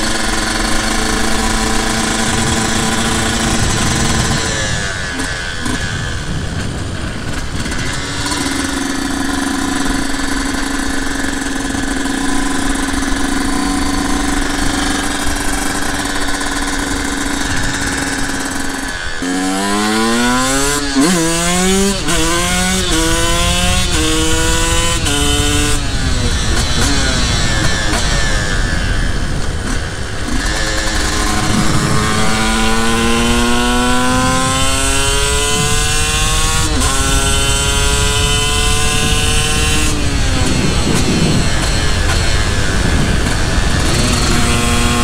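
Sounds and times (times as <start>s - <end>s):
engine whine through gear changes: 0.0s - 45.0s
two-stroke motorcycle engine: 0.0s - 45.0s.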